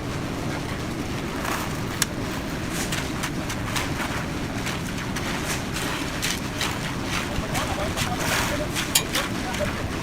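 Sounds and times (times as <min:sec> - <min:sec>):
concrete mixer rumbling: 0:00.0 - 0:10.0.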